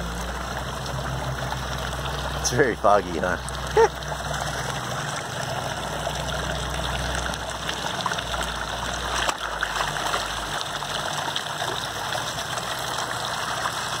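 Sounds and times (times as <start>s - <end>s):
water running and trickling: 0.0s - 14.0s.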